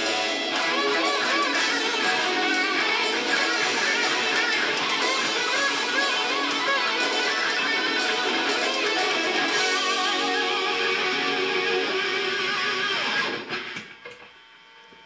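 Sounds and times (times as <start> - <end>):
backing track: 0.0 - 12.3
overdriven electric guitar lead: 0.0 - 14.0.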